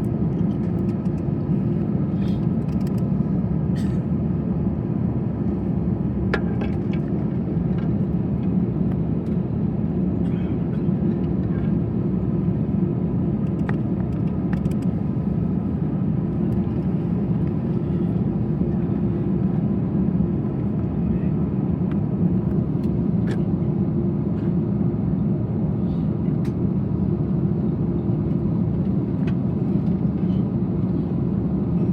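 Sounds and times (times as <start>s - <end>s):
aircraft cabin rumble: 0.0s - 31.9s.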